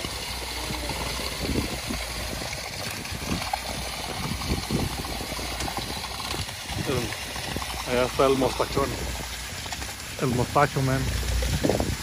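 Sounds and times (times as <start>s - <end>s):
concrete pump engine hum: 0.0s - 12.0s.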